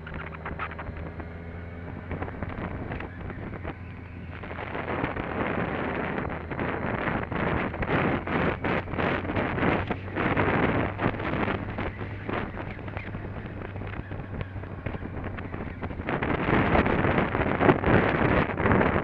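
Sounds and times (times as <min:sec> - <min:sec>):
motorcycle engine humming: 0:00.0 - 0:19.0
wind buffeting microphone: 0:00.0 - 0:19.0.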